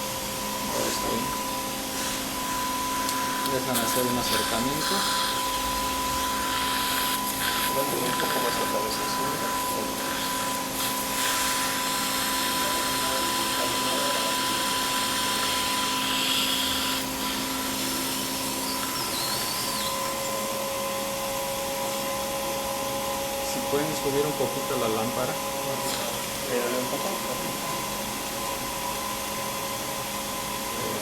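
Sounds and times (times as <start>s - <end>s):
suction unit hissing: 0.0s - 31.0s.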